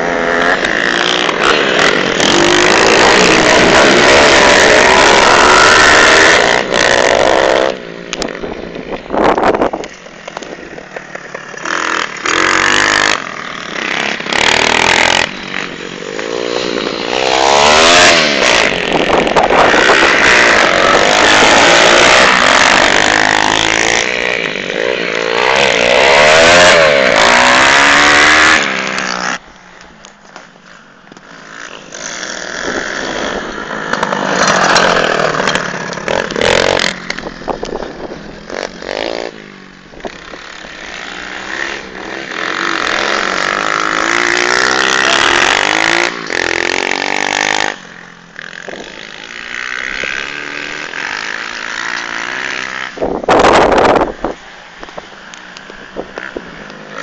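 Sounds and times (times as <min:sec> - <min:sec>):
pit bike engines revving: 0:00.0 - 0:57.0.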